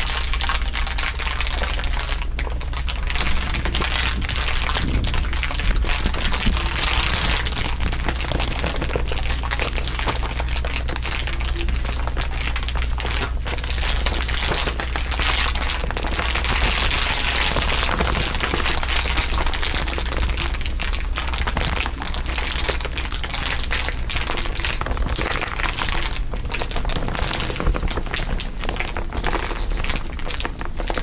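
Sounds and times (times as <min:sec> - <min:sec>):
dense crinkling crackle: 0:00.0 - 0:31.0
steady low hum: 0:00.0 - 0:31.0.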